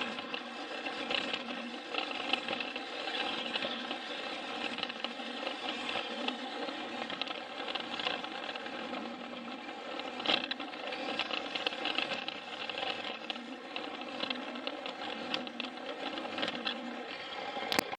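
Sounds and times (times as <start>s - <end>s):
wheels clicking and rattling on track: 0.0s - 17.8s
toy train motor whirring: 0.0s - 17.9s.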